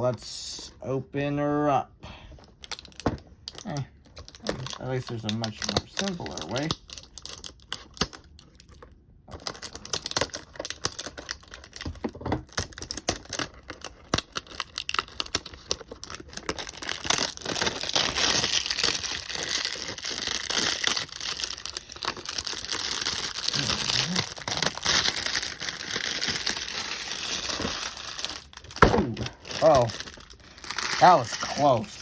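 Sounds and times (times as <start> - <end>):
packaging clicks and rustles: 2.4 - 32.0
plastic wrap crinkling: 2.5 - 32.0.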